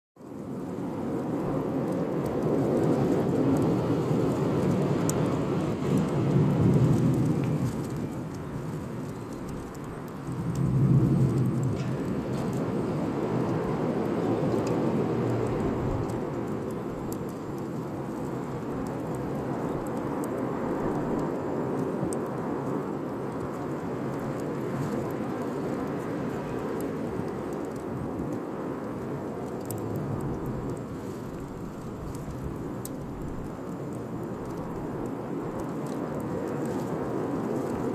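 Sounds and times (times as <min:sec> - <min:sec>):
campfire flames rushing: 0:00.2 - 0:37.9
fire crackles and pops: 0:00.2 - 0:37.9.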